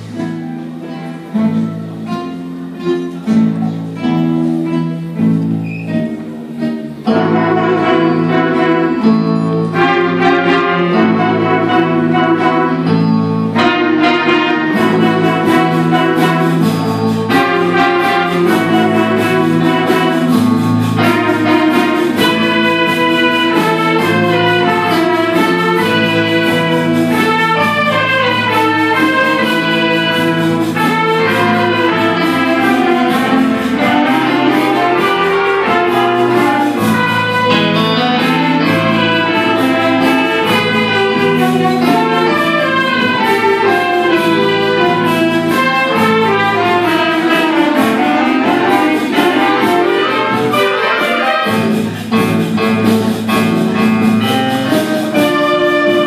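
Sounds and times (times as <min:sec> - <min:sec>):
wind orchestra playing: 0:00.0 - 0:56.0.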